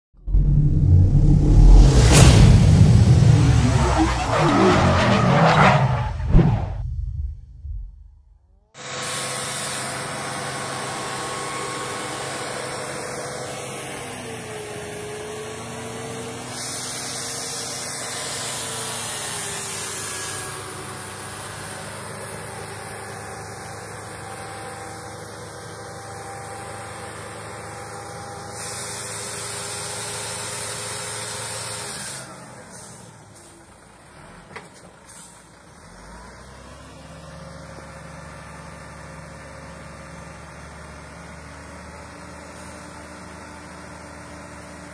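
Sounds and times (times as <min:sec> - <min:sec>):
heavy diesel engines running: 0:08.8 - 0:44.9.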